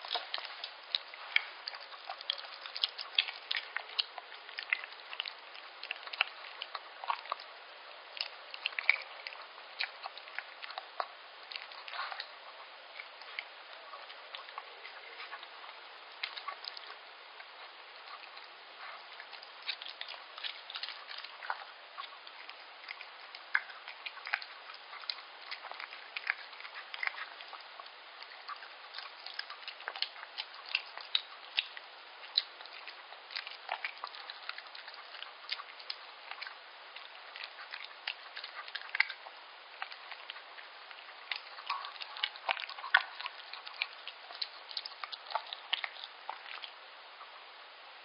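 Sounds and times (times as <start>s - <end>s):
dog chewing wet food: 0.0s - 47.0s.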